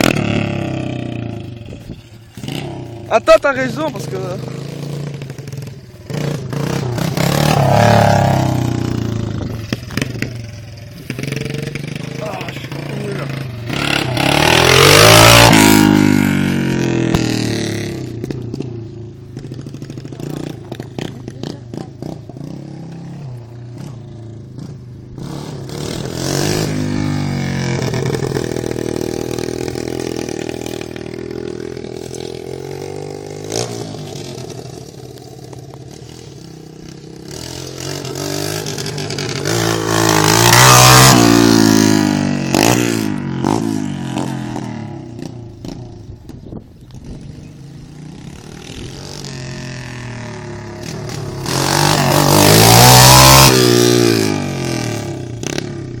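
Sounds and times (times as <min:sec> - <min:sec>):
dirt bike engine revving: 0:00.0 - 0:46.1, 0:47.0 - 0:56.0.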